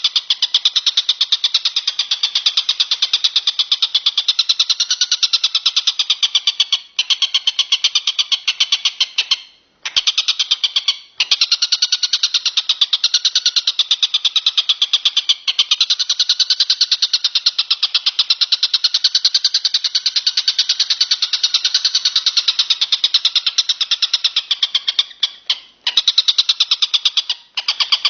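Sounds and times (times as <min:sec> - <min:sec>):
bird chirping rapidly: 0:00.0 - 0:28.0.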